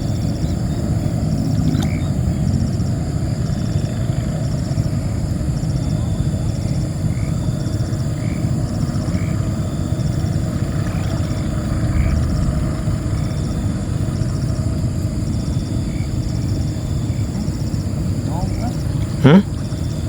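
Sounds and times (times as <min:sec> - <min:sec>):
insects trilling: 0:00.0 - 0:20.0
steady low rumble: 0:00.0 - 0:20.0.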